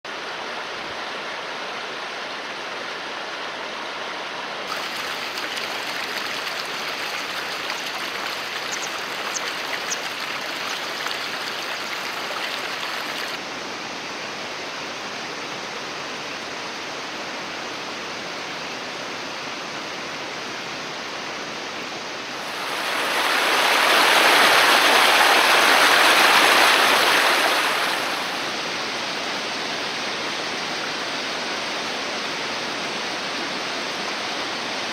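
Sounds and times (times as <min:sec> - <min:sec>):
mountain stream rushing: 0:00.1 - 0:34.9.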